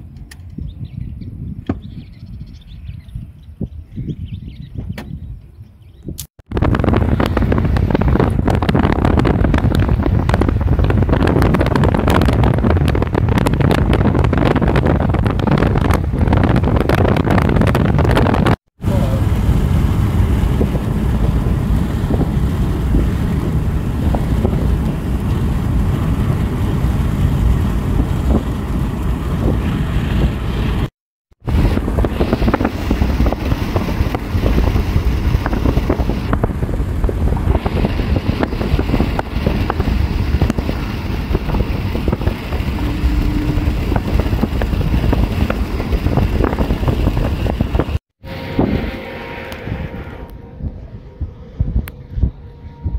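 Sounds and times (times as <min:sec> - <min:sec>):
wind buffeting microphone: 0:00.0 - 0:52.9
car road noise: 0:06.5 - 0:51.0.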